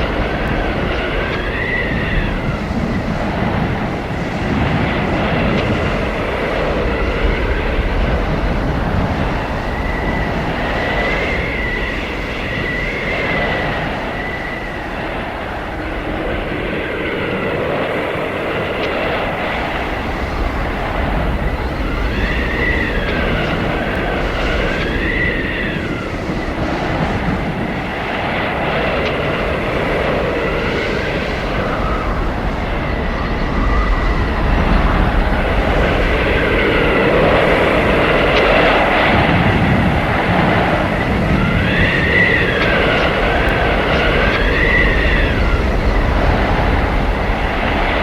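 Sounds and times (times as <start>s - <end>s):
blizzard wind howling: 0.0s - 48.0s.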